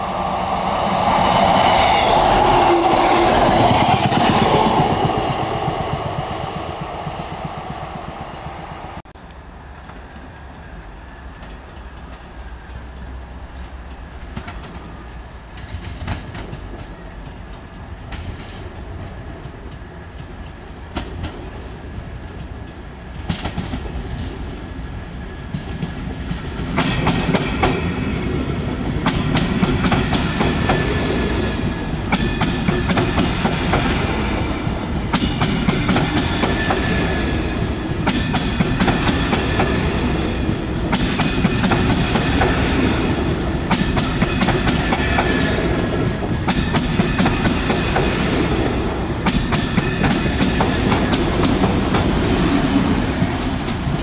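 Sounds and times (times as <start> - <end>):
passenger train passing: 0.0 - 54.0.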